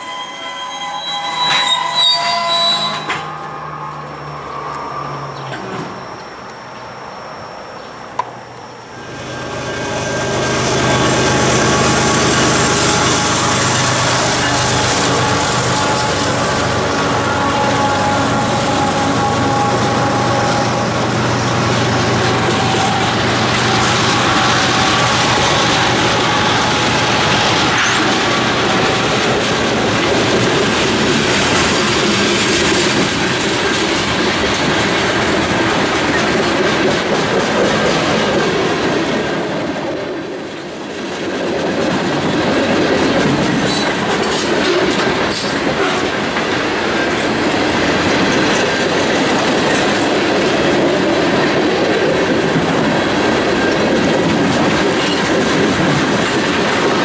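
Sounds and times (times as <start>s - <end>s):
train wheels running on rails: 0.0s - 57.0s.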